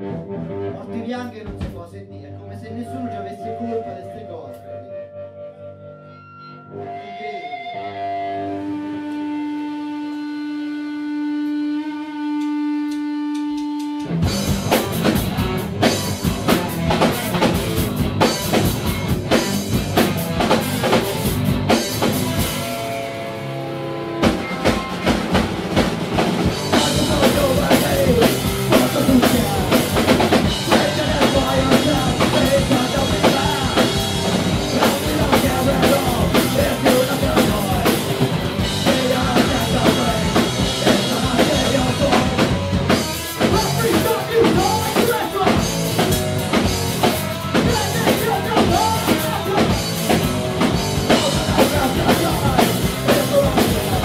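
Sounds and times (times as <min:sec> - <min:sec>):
punk band playing live: 0:00.0 - 0:01.9, 0:07.7 - 0:54.0.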